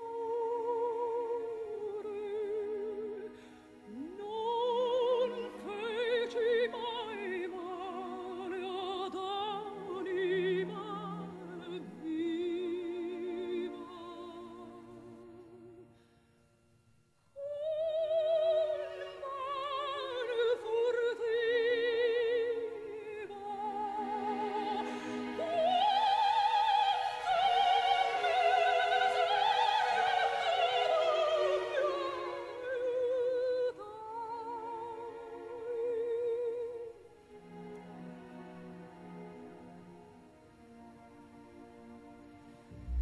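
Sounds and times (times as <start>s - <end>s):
operatic singing: 0.0s - 15.8s, 17.4s - 36.8s.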